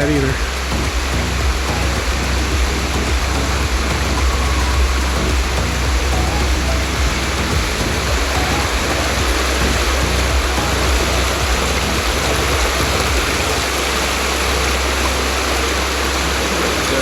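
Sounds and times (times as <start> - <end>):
fluttering low rumble: 0.0 - 17.0
stream water rushing: 0.0 - 17.0.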